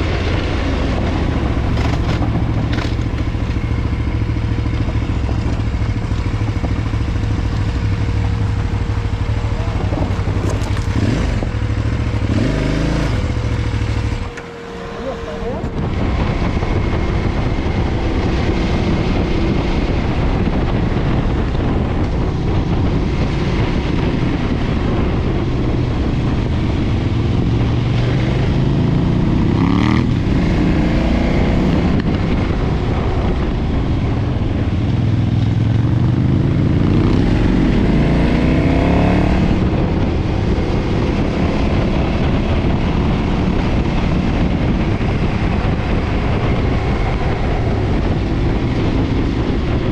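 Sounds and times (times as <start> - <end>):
motorcycle engine revving: 0.0 - 49.9
rushing riding noise: 0.0 - 49.9.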